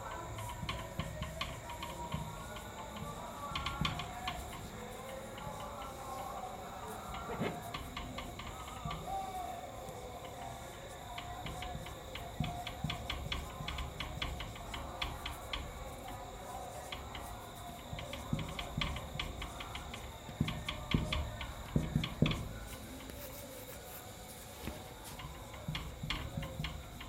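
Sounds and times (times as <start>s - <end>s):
light clicks and ticks: 0.0s - 23.4s
faint steady hum: 0.0s - 27.0s.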